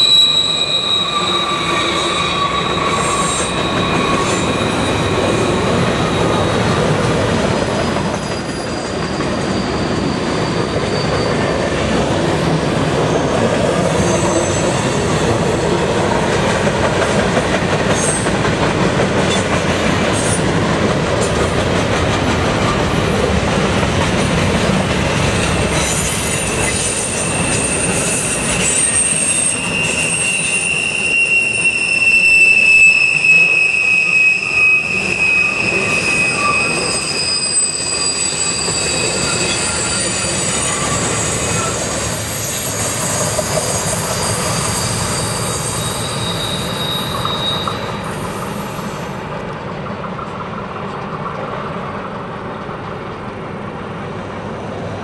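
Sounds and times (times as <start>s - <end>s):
wheel flanges squealing on rail: 0.0s - 49.4s
freight train wheels rumbling: 0.0s - 55.0s.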